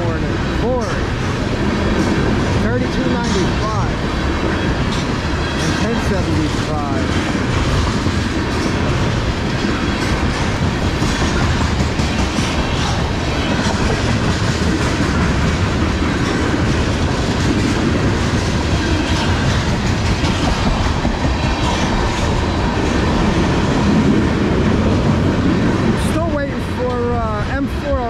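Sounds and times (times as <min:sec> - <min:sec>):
clickety-clack over rail joints: 0:00.0 - 0:28.0
train wheels on rails: 0:00.0 - 0:28.0.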